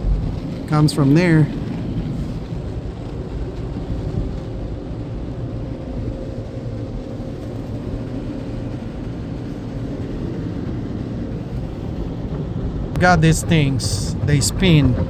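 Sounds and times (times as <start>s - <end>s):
car wash machinery rumble: 0.0s - 15.0s
water spraying on car: 0.0s - 15.0s.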